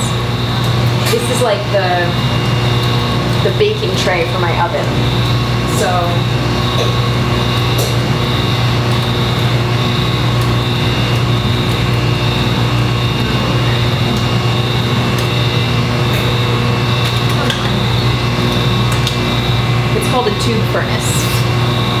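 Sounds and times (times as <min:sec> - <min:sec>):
high whine: 0:00.0 - 0:22.0
machinery humming: 0:00.0 - 0:22.0.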